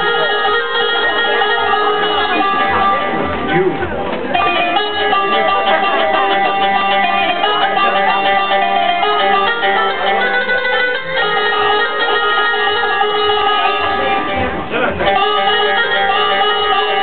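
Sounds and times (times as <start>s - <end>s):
plucked string instruments: 0.0s - 17.0s
steady low beat: 0.0s - 17.0s.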